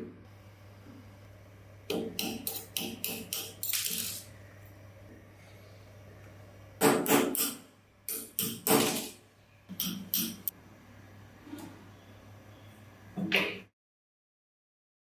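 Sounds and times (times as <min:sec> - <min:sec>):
faint steady hum: 0:00.0 - 0:13.7.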